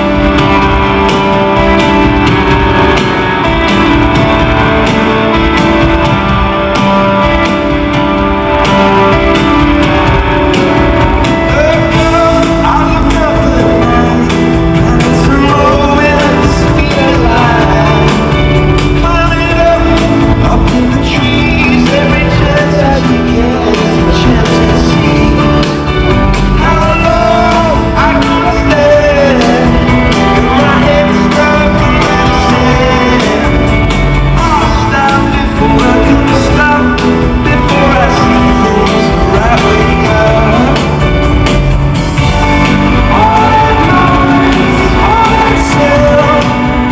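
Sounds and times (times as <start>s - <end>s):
live rock band playing: 0.0s - 46.9s
person singing: 0.0s - 46.9s.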